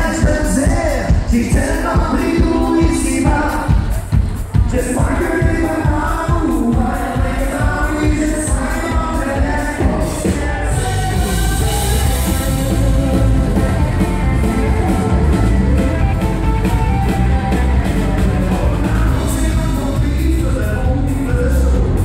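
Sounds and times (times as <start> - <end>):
man singing: 0.0 - 15.8, 17.4 - 22.0
rock band playing: 0.0 - 22.0.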